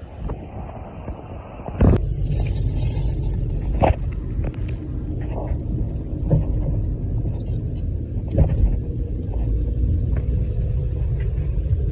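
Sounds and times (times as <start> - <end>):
vehicle engine rumbling: 0.0 - 11.9.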